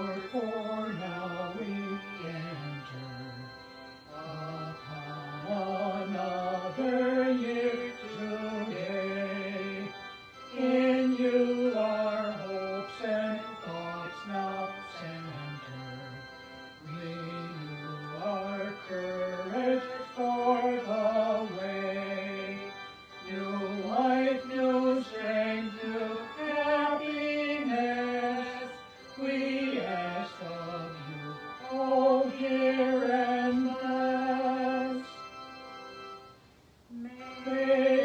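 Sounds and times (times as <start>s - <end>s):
slow hymn singing: 0.0s - 38.0s.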